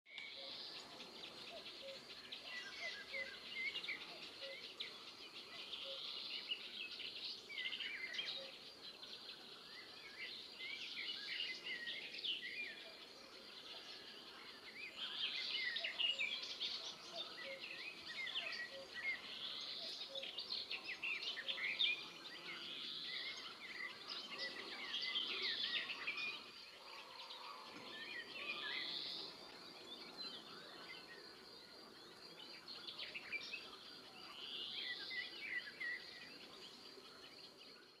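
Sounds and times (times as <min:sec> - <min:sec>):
birds chirping and trilling: 0:00.1 - 0:38.0.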